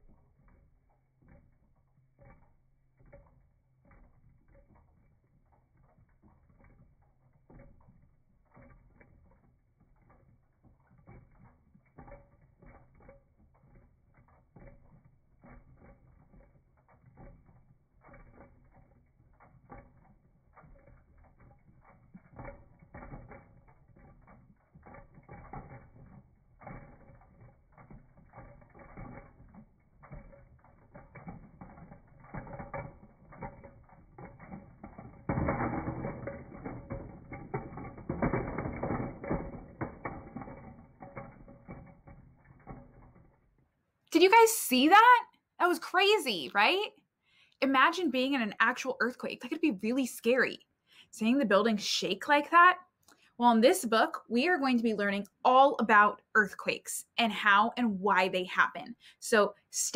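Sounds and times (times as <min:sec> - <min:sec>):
toy crank clicking and rattling: 0:00.0 - 0:59.9.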